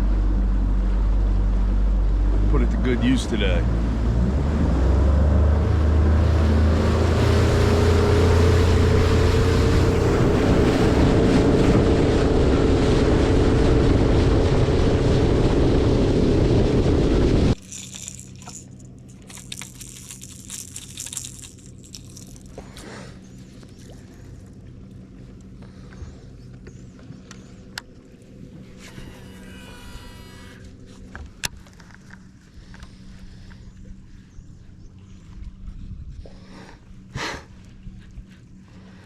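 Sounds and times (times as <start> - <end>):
outboard motor droning: 0.0 - 39.0.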